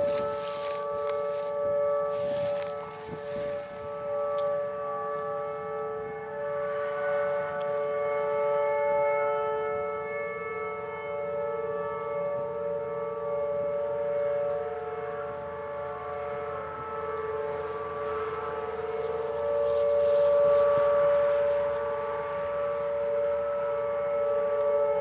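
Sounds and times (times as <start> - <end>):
tornado siren chord: 0.0 - 25.0.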